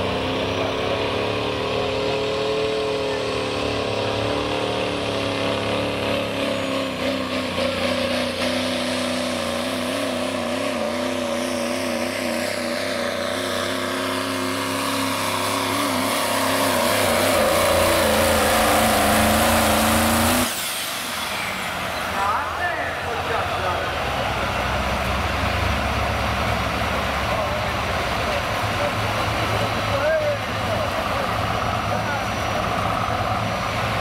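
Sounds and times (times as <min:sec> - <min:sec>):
diesel truck engine at high revs: 0:00.0 - 0:34.0.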